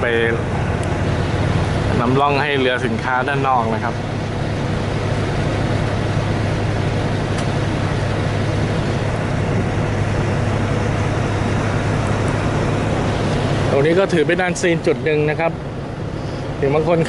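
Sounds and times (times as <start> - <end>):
ferry engine drone: 0.0 - 17.0.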